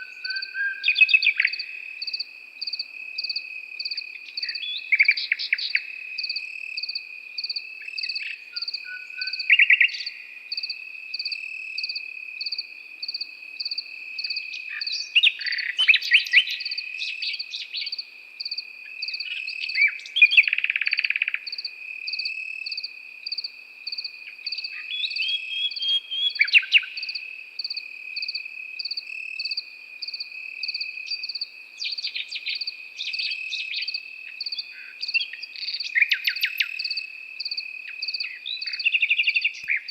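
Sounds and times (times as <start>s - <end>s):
cricket chirping: 0.0s - 39.9s
insect trilling: 0.0s - 39.9s
nightingale singing: 0.0s - 39.9s.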